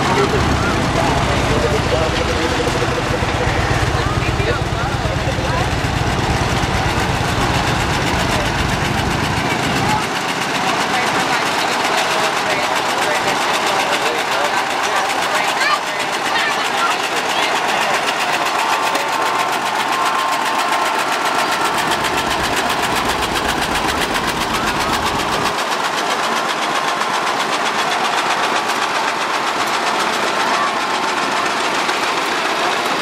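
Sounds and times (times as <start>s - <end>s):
rapid exhaust beat: 0.0s - 33.0s
tractor engines running: 0.0s - 33.0s.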